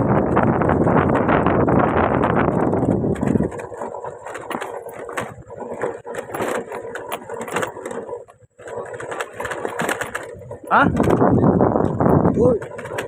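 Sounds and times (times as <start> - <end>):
scattered knocks and clicks: 0.5 - 13.0.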